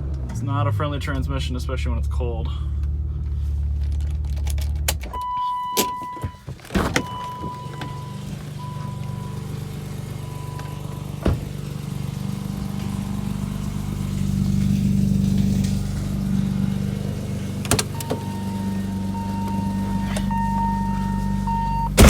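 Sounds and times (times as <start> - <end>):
car engine running steadily: 0.0 - 22.0.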